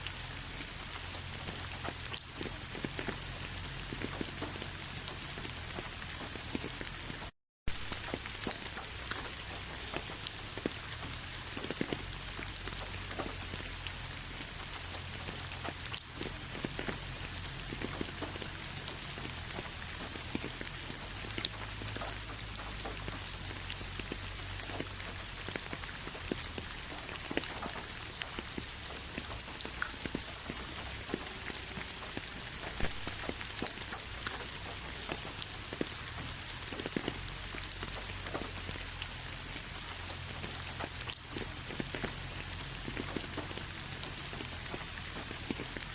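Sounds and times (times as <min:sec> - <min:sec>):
rain hiss: 0:00.0 - 0:45.9
raindrops ticking: 0:00.0 - 0:45.9.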